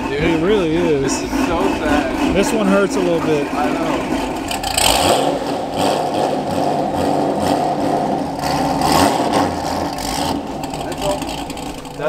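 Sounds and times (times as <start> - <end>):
car engine revving in throttle blips: 0.0 - 12.0.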